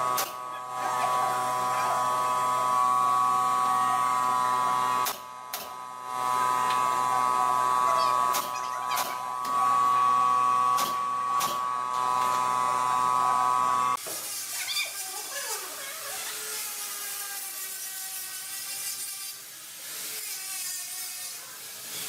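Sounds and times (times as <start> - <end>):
power tool motor whining: 0.0 - 22.0.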